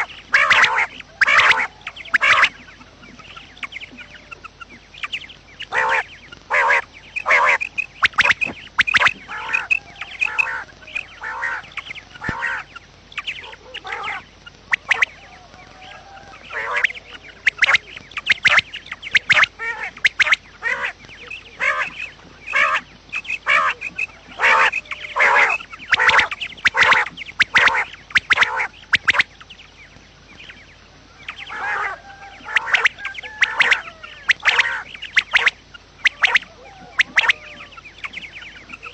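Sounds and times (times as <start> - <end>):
quail calling: 0.0 - 38.9.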